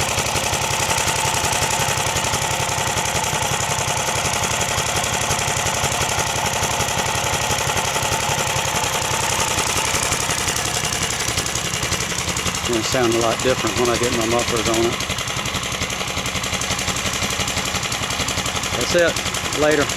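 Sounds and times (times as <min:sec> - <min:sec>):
unmuffled small engine running: 0:00.0 - 0:19.9.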